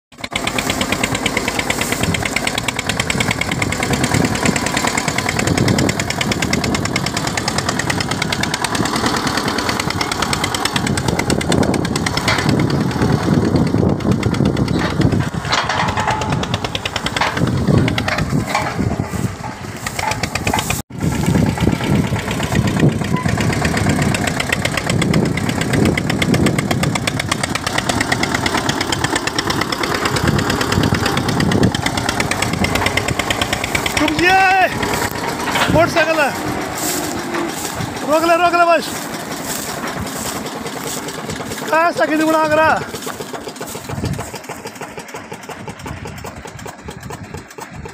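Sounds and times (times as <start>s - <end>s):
tractor diesel engine running: 0.1s - 47.9s.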